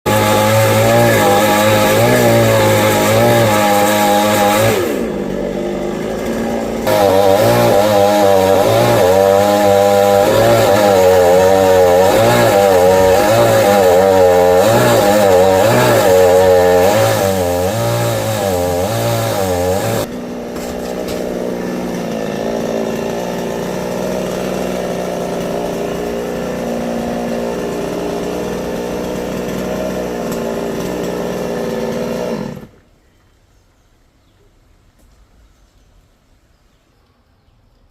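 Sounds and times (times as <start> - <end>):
chainsaw cutting wood: 0.0 - 32.8.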